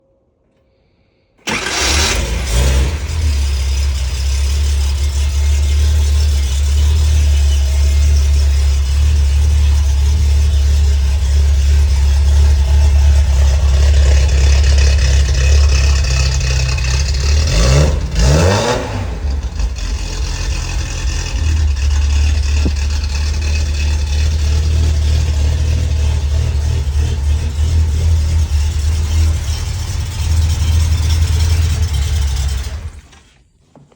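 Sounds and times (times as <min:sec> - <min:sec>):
car engine idling and revving: 0:01.5 - 0:33.4.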